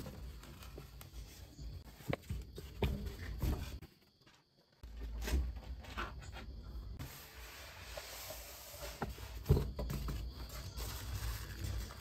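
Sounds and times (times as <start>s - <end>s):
cardboard and styrofoam rustling: 0.0s - 6.4s, 7.0s - 12.0s.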